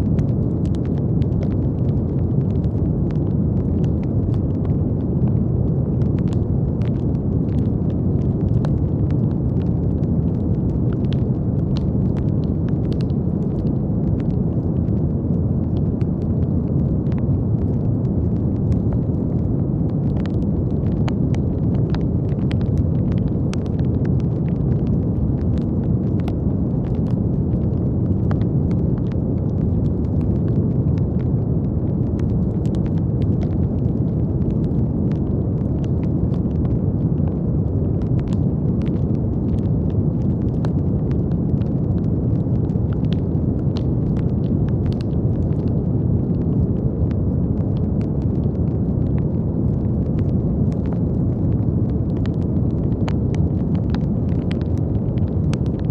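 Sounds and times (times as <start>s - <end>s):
faint crackles: 0.0s - 55.9s.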